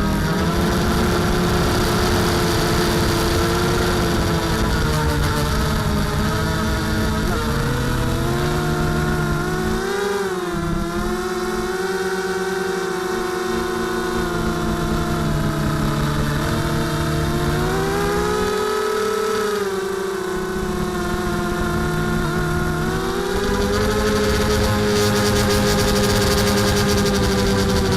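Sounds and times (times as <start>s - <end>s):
drone propellers buzzing: 0.0s - 27.9s.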